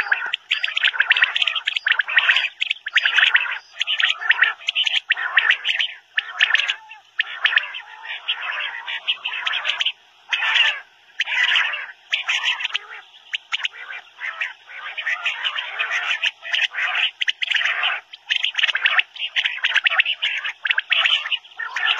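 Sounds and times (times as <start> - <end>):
quail calling: 0.0 - 21.9.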